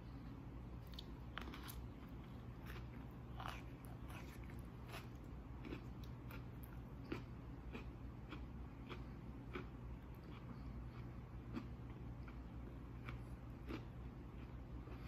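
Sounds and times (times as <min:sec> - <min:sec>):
chewing with crunchy clicks: 0:00.8 - 0:15.0.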